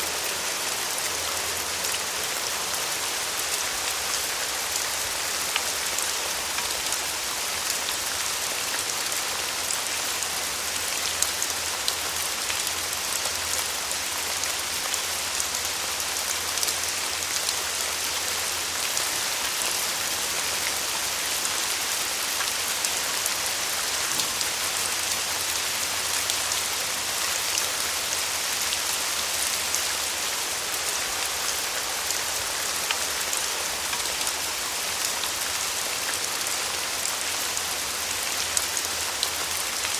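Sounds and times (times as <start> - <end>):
raindrops ticking on a surface: 0.0 - 39.9
steady rain falling: 0.0 - 39.9.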